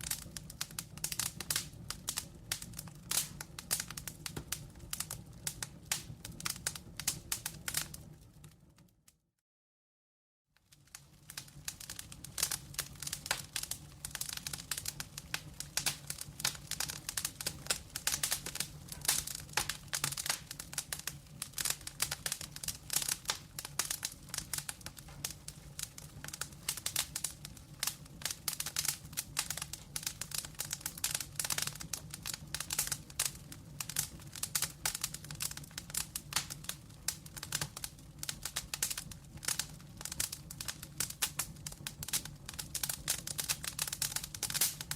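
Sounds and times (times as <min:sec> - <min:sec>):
wood fire crackling: 0:00.0 - 0:09.0, 0:10.6 - 0:44.9.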